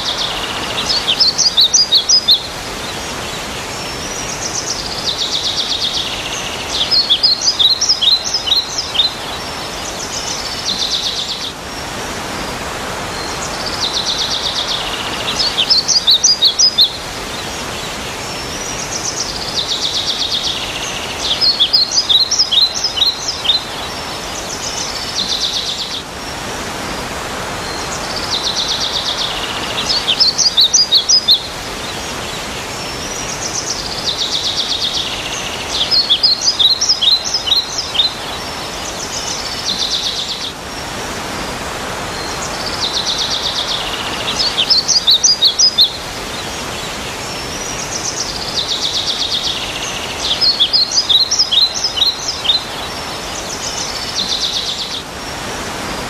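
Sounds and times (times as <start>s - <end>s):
songbird singing: 0.0s - 56.0s
steady rain: 0.0s - 56.0s.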